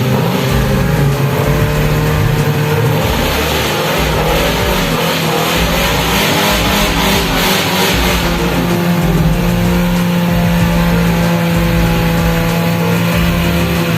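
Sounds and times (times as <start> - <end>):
engine revving hard: 0.0 - 13.9.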